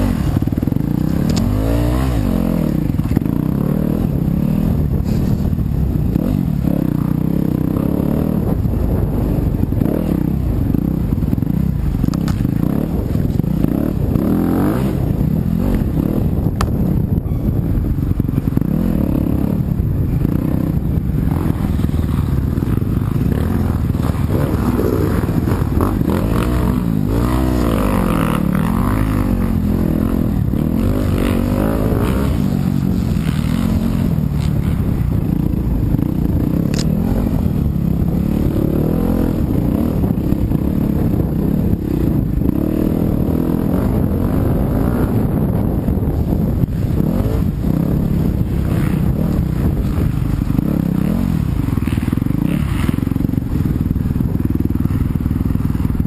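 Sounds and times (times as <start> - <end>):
dirt bike engine revving: 0.0 - 16.6, 18.2 - 56.0.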